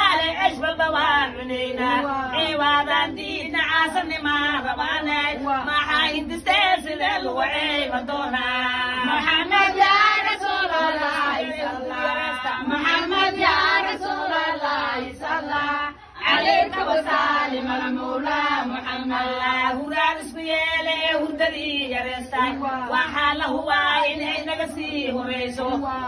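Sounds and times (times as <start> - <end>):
women singing a devotional chant: 0.0 - 26.0.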